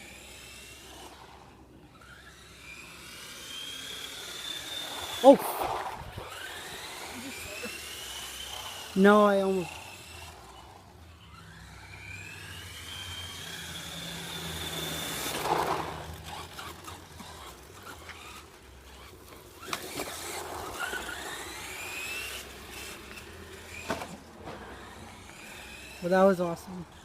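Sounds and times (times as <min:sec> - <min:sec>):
rc car motor whining: 0:00.0 - 0:27.0.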